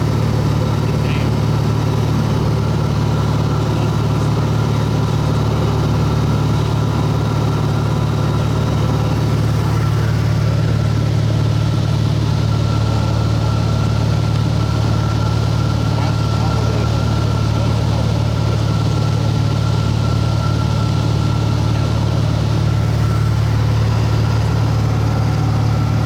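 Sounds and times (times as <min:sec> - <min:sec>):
aircraft engine and propeller droning: 0:00.0 - 0:26.0.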